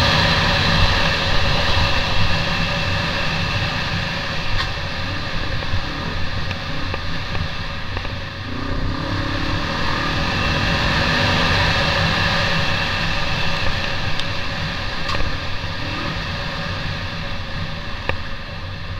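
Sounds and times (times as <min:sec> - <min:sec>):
off-road motorcycle engine: 0:00.0 - 0:18.9.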